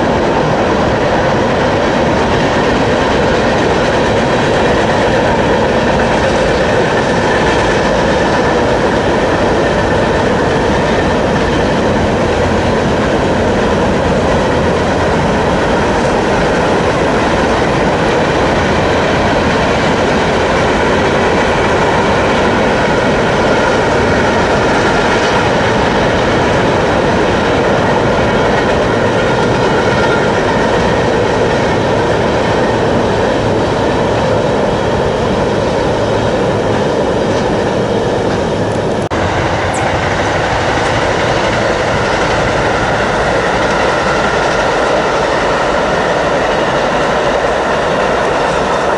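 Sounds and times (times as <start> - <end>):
train cars rolling on track: 0.0 - 48.9.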